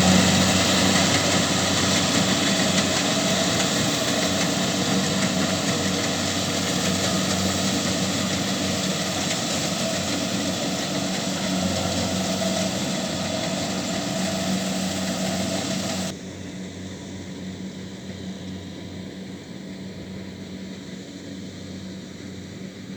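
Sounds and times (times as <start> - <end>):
combine harvester diesel engine drone: 0.0 - 22.9.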